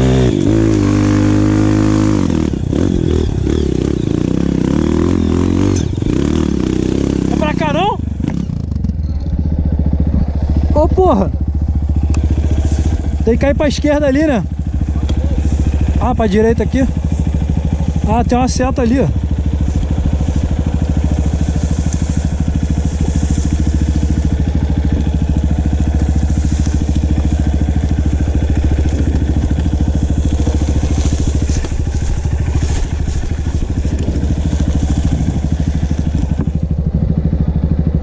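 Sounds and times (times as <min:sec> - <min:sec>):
motorcycle engine running at low revs: 0:00.0 - 0:38.0.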